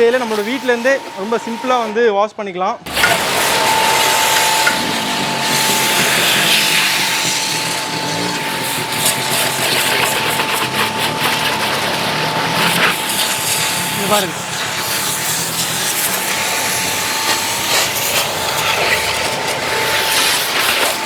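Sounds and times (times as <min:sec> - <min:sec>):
water jet spraying: 0:00.0 - 0:02.1, 0:02.9 - 0:21.0
pressure washer motor whine: 0:00.0 - 0:21.0.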